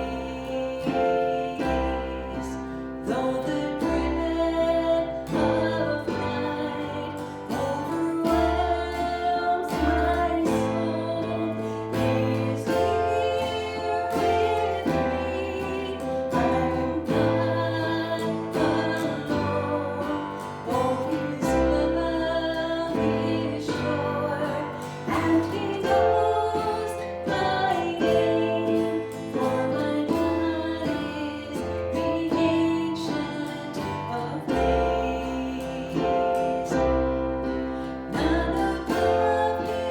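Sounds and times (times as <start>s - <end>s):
bass line: 0.0s - 39.9s
guitar: 0.0s - 39.9s
person singing: 0.0s - 39.9s.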